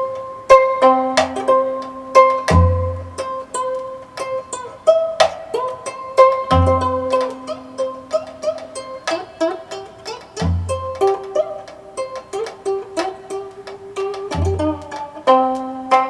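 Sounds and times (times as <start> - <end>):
plucked zither notes: 0.0 - 16.0.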